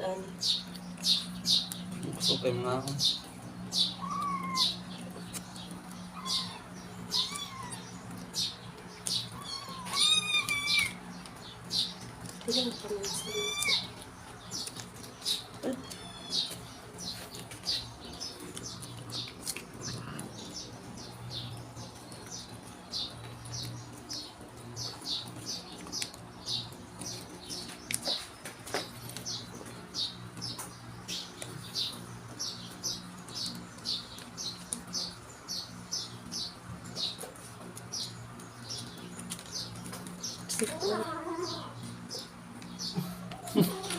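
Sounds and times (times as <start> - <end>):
small bird chirping: 0.0 - 43.9
steady low hum: 0.0 - 43.9.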